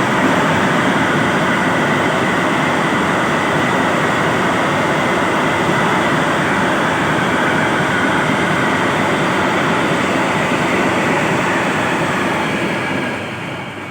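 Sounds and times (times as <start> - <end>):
freight train passing: 0.0 - 13.9.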